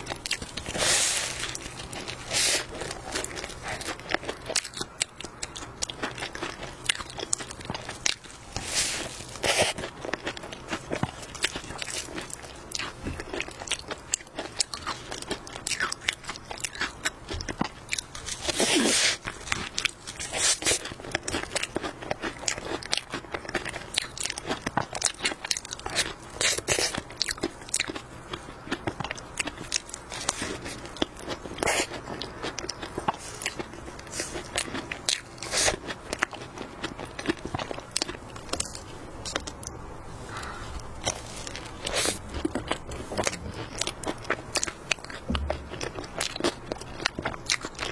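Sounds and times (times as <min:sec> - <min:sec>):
crunchy pastry chewing: 0:00.0 - 0:47.9.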